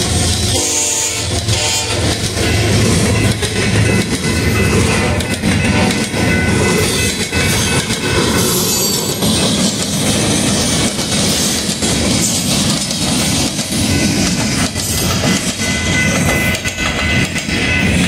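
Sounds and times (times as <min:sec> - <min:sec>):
train wheels clacking on rails: 0:00.0 - 0:18.0.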